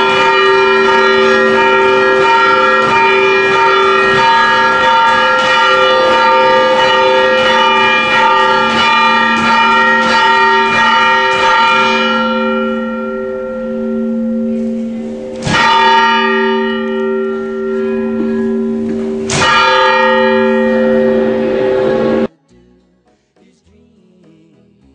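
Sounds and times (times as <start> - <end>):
church bell ringing: 0.0 - 22.3.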